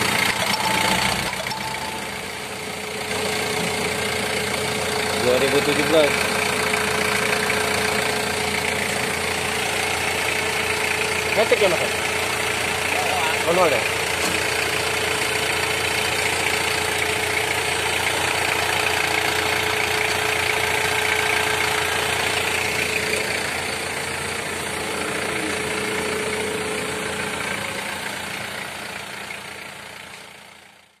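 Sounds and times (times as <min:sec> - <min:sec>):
forklift diesel engine idling: 0:00.0 - 0:31.0.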